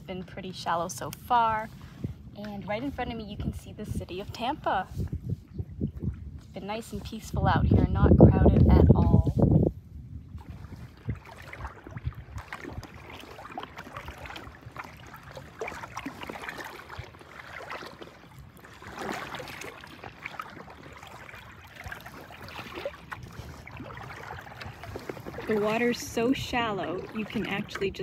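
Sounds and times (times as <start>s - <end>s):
water lapping against a kayak: 0.0s - 28.0s.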